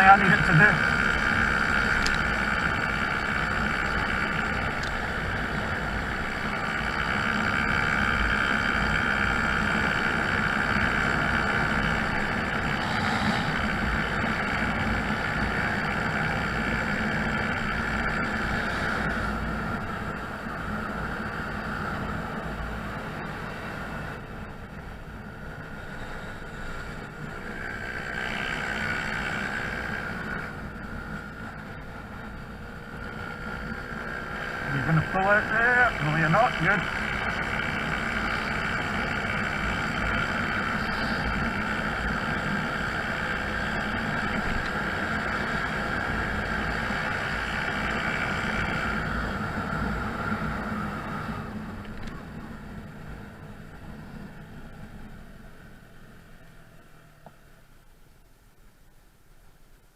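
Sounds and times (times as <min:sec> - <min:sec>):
scooter engine running: 0:00.0 - 0:57.9.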